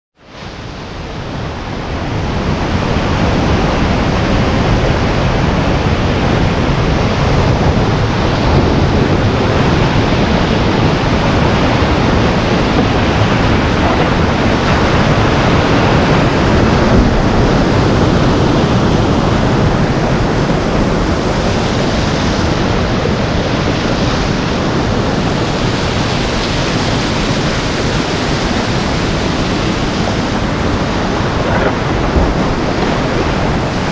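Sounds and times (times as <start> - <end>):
whitewater rapids rushing: 0.2 - 33.9.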